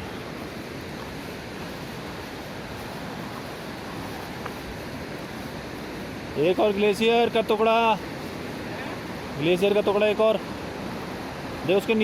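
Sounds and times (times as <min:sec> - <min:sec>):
fast-flowing stream rushing: 0:00.0 - 0:12.0.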